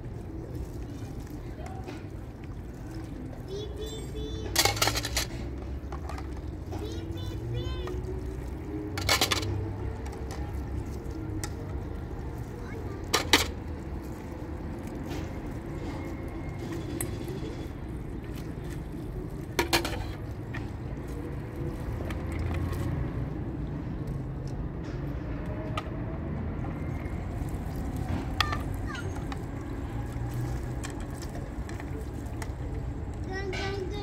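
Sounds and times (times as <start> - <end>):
water rushing from hose: 0.0 - 24.7, 26.4 - 34.0.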